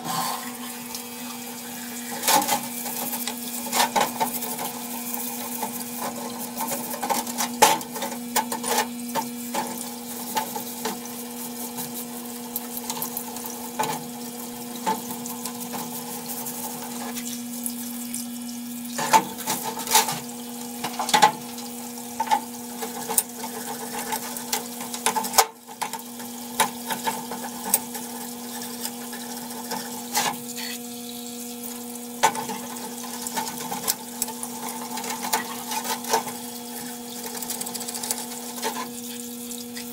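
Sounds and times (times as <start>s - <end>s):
pump humming: 0.0s - 39.9s.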